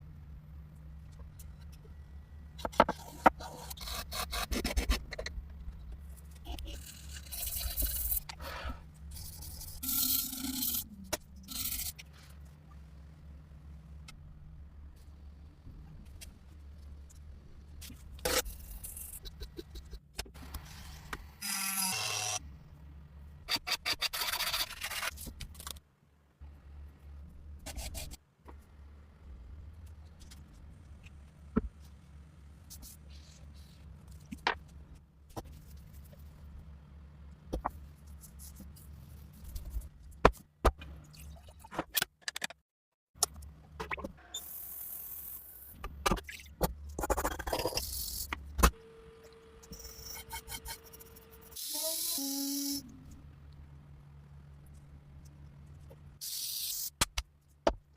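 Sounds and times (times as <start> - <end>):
low steady hum: 0.0 - 21.4, 25.1 - 41.7, 45.4 - 51.6, 52.5 - 56.2.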